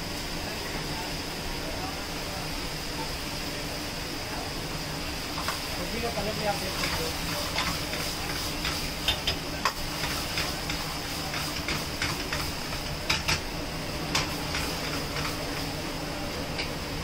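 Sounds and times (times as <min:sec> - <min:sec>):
food sizzling: 0:00.0 - 0:17.0.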